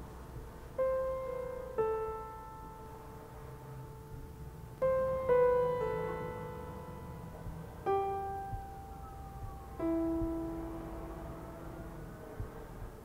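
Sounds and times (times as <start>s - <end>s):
sparse solo piano notes: 0.0s - 13.0s.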